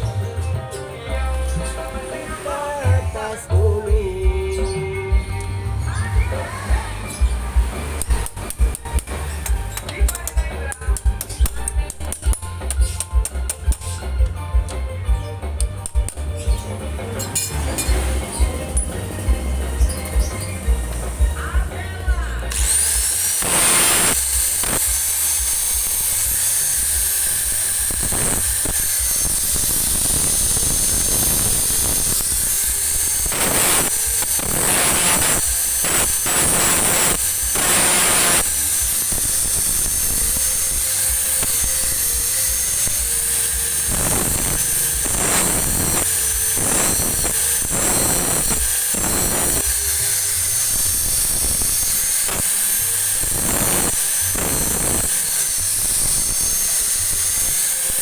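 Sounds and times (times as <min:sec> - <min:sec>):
electric grinder grinding metal: 0:00.0 - 0:58.0.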